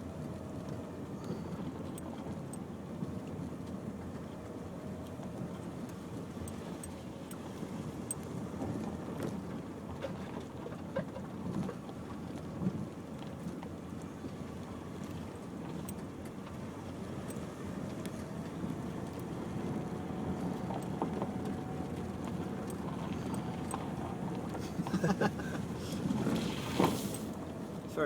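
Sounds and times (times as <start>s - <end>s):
engine and tyre rumble: 0.0s - 28.0s.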